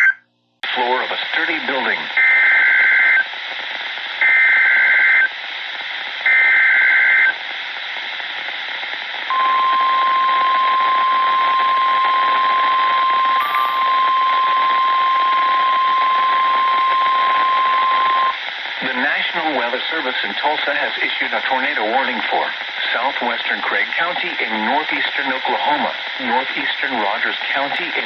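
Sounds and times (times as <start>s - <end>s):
static hiss: 2.8s - 9.3s, 11.4s - 28.0s.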